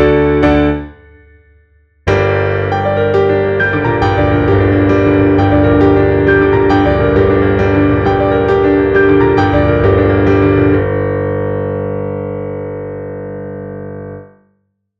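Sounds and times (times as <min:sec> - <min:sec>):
piano music: 0:00.0 - 0:01.5, 0:02.1 - 0:14.2.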